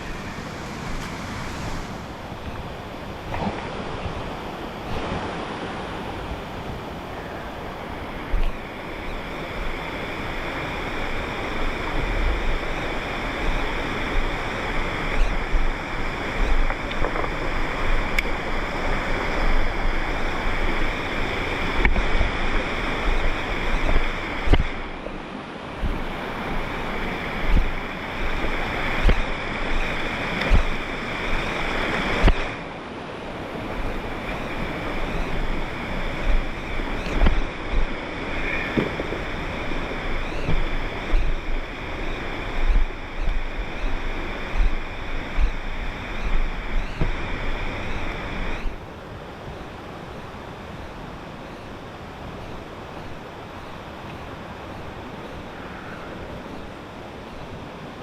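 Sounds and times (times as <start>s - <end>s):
wind buffeting microphone: 0.0s - 49.7s
rushing water: 0.0s - 58.0s.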